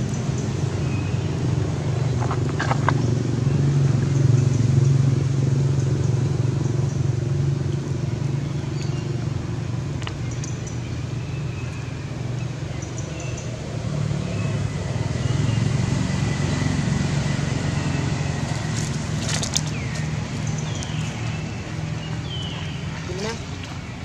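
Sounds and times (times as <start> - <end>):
low motor drone: 0.0 - 24.0.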